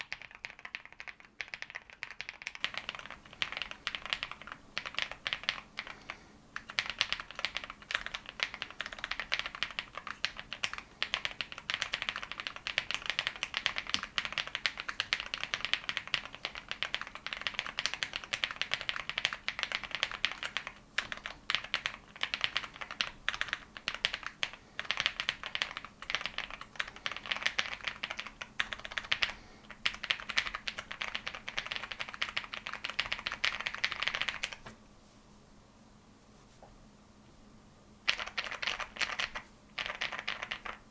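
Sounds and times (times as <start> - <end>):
fast mechanical keyboard typing: 0.0 - 6.0, 6.6 - 34.6, 38.1 - 40.9.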